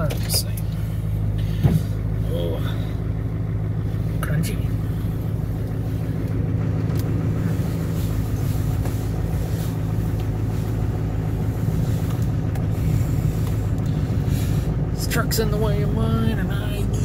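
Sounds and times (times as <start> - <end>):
diesel pickup engine idling: 0.0 - 17.0.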